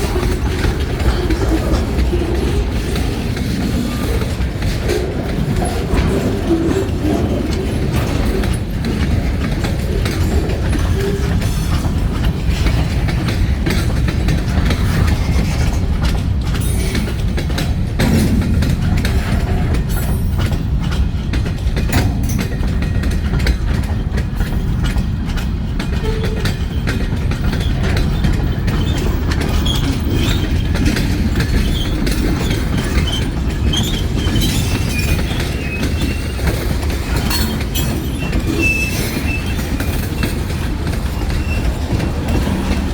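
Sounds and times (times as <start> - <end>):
train wheels clacking: 0.0 - 42.9.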